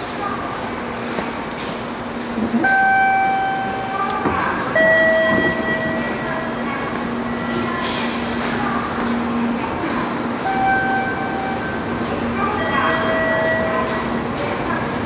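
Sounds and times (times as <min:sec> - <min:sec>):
train rumble: 0:00.0 - 0:15.0
long steady tones: 0:02.6 - 0:15.0.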